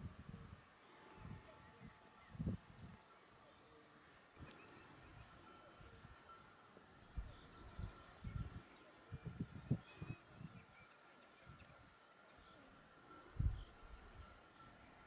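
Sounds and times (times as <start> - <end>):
distant insect chirping: 0.0 - 15.0.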